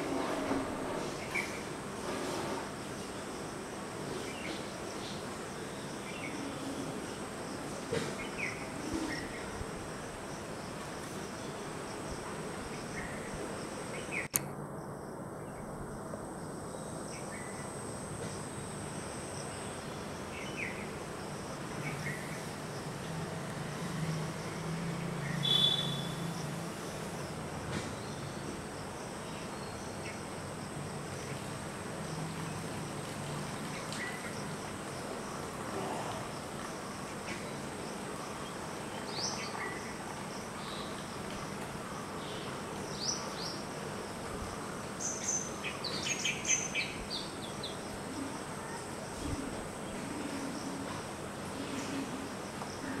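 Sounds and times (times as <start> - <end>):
insect drone: 0.0 - 53.0.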